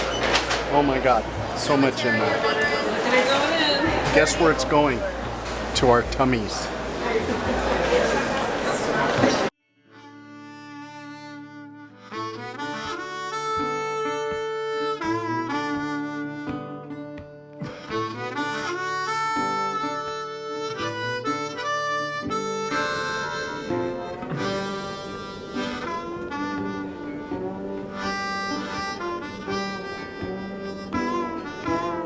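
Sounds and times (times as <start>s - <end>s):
harmonica background music: 0.0s - 6.7s, 9.6s - 32.0s.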